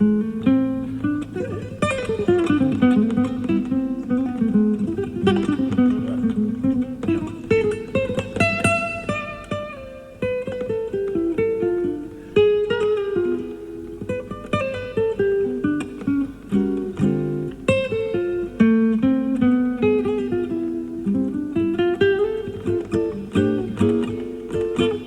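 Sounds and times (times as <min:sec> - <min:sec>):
cassette tape hiss: 0:00.0 - 0:25.0
classical guitar playing: 0:00.0 - 0:25.0.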